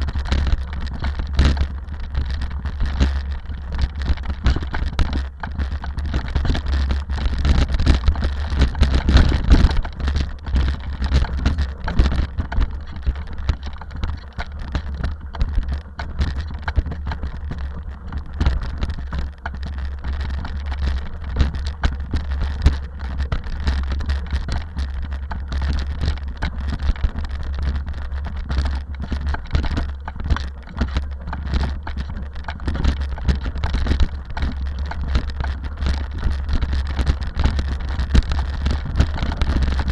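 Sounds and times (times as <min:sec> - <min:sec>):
crackling rattling noise: 0:00.0 - 0:39.9.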